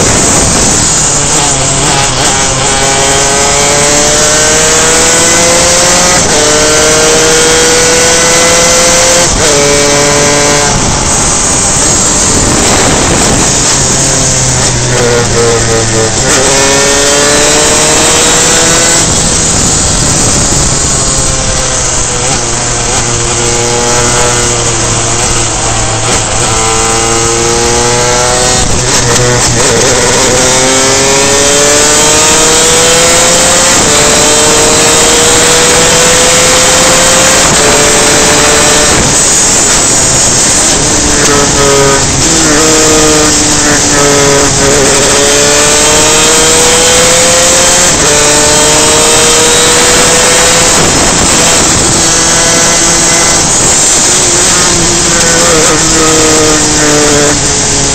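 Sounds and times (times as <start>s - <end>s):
racing kart engine revving: 0.0s - 57.9s.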